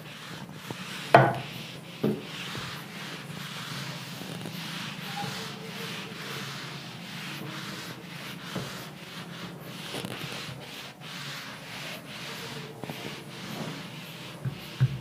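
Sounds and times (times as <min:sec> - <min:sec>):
duster wiping whiteboard: 0:00.0 - 0:15.0.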